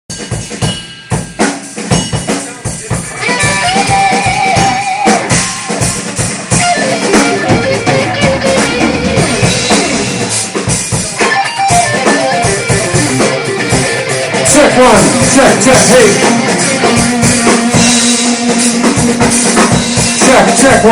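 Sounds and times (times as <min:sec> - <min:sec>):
held guitar notes: 0:02.9 - 0:20.9.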